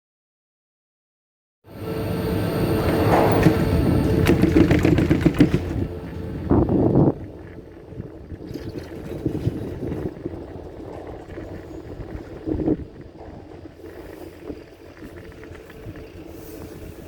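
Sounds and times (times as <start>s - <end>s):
chairlift mechanical rumble: 1.7s - 17.0s
wind: 1.7s - 17.0s.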